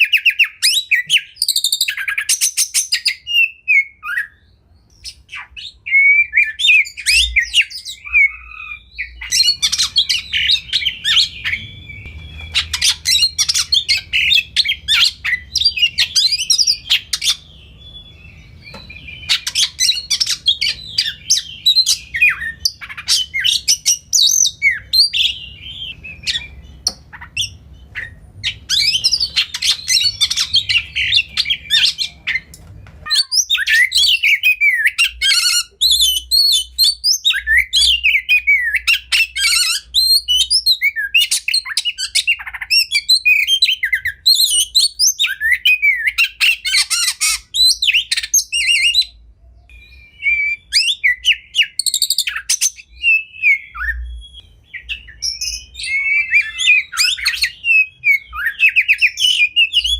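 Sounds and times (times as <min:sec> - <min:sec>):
bird singing whistled trills: 0:00.0 - 0:59.9
faint low hum: 0:03.5 - 0:59.9.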